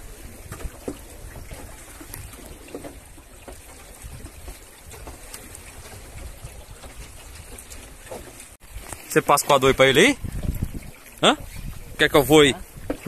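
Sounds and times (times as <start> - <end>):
wind rumble on microphone: 0.0 - 9.0, 9.6 - 13.0
water lapping against boat hull: 0.0 - 13.0.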